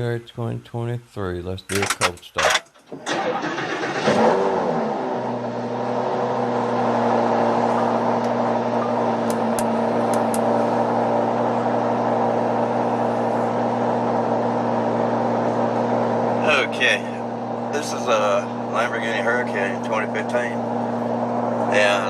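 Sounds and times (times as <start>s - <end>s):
car engine starting and idling: 1.7s - 22.0s.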